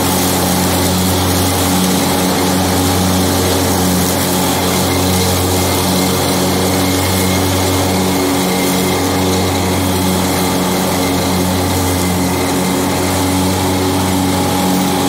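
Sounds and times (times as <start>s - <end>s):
garden tractor engine humming: 0.0s - 15.0s
mower deck rushing hiss: 0.0s - 15.0s.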